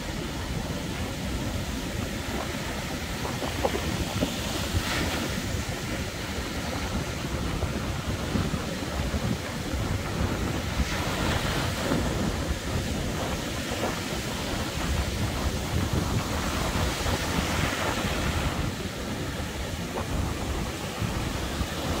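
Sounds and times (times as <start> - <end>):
surf washing up beach: 0.0 - 22.0
wind buffeting microphone: 0.0 - 22.0.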